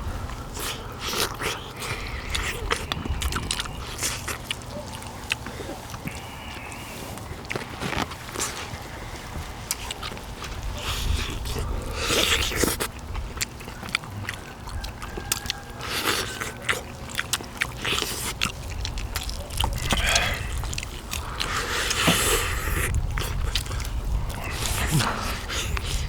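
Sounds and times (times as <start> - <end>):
steady low rumble: 0.0 - 14.2, 18.5 - 26.0
chewing meat off bones: 0.0 - 26.0.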